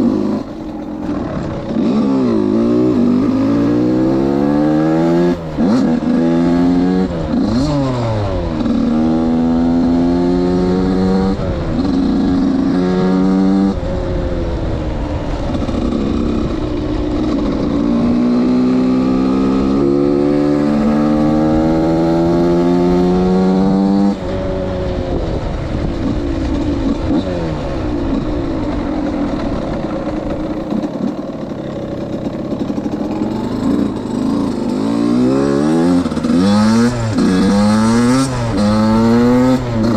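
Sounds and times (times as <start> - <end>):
two-stroke engine accelerating: 0.0 - 39.9.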